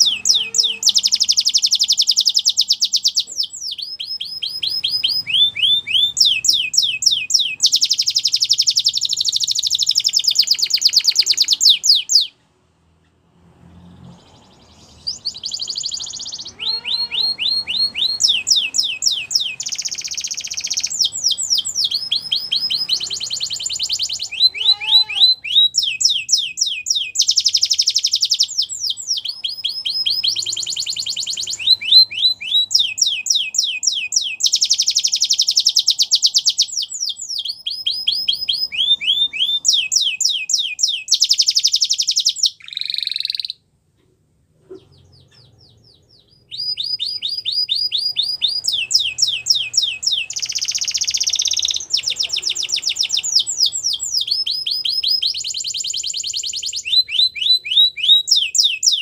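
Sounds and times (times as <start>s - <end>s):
canary singing: 0.0s - 13.2s, 13.9s - 43.7s, 44.6s - 59.0s.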